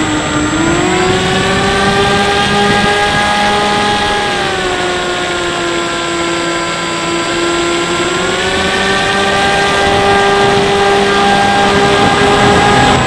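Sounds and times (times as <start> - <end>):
electric motor and propeller whining: 0.0 - 13.0
wind rush: 0.0 - 13.0.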